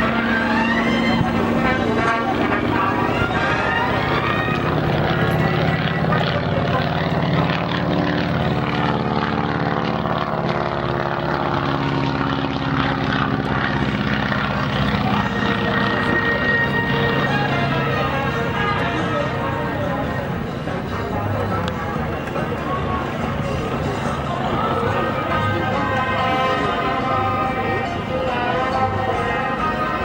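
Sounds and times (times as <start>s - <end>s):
biplane engine and propeller: 0.0s - 30.0s.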